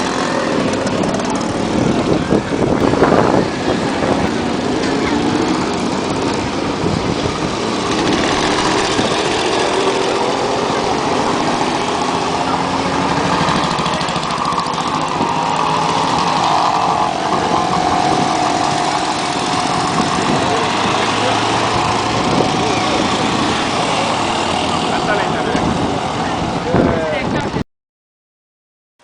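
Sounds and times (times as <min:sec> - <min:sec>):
motorcycles riding past: 0:00.0 - 0:27.2.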